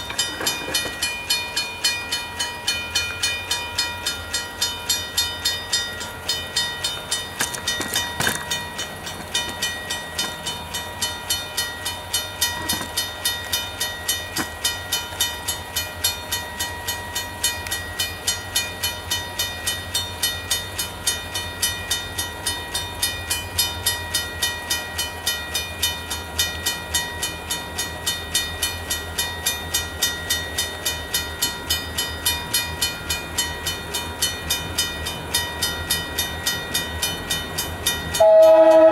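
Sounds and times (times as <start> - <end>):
crossing bell ringing: 0.0 - 38.9
freight train rumbling: 0.0 - 38.9.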